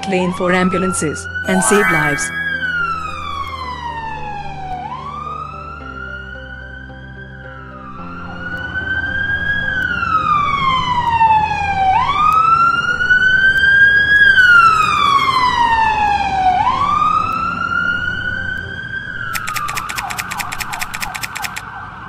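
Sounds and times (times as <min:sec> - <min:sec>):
ambulance siren wailing: 0:00.0 - 0:22.0.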